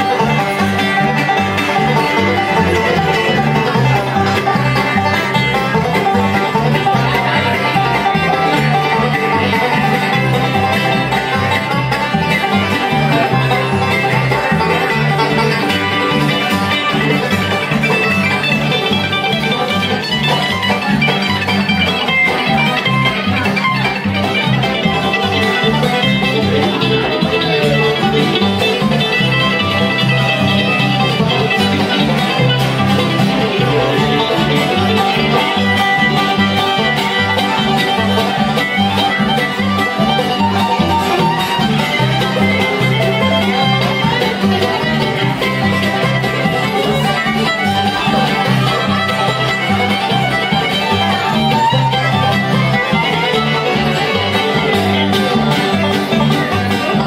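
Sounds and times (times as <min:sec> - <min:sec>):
acoustic guitar: 0:00.0 - 0:57.0
banjo picking: 0:00.0 - 0:57.0
fiddle: 0:00.0 - 0:57.0
mandolin: 0:00.0 - 0:57.0
upright bass: 0:00.0 - 0:57.0.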